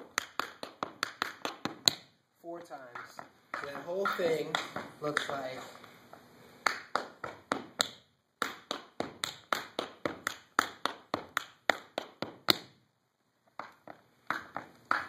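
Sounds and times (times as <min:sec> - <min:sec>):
tap shoes on wooden floor: 0:00.0 - 0:12.8, 0:13.5 - 0:15.0.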